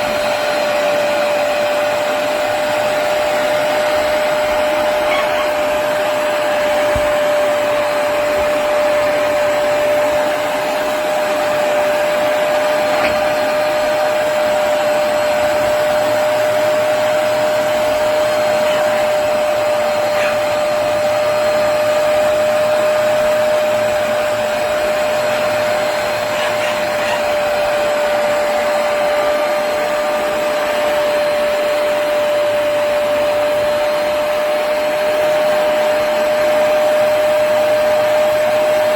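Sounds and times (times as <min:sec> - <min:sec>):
carpet cleaner whining: 0:00.0 - 0:38.9.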